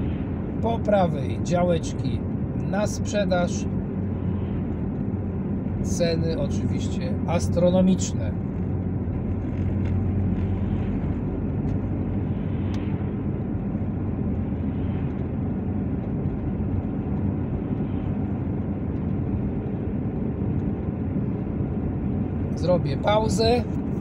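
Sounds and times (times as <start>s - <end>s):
car engine and tyre drone: 0.0s - 24.0s.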